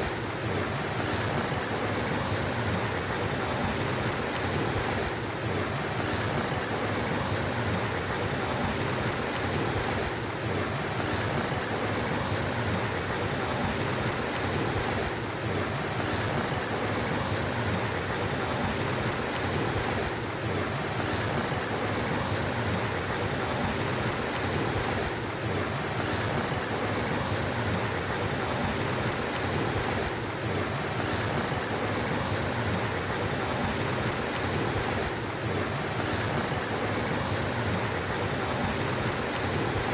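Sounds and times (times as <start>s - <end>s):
water flowing in a stream: 0.0s - 39.9s.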